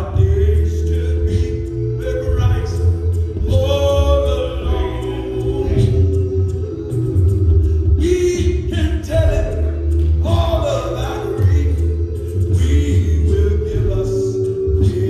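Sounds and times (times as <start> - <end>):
man singing unaccompanied: 0.0 - 6.4, 8.0 - 15.0.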